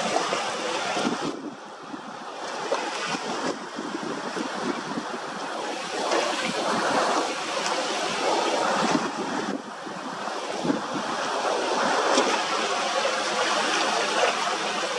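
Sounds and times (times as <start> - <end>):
wind on microphone: 0.0 - 14.6
choppy sea water washing: 0.0 - 14.9.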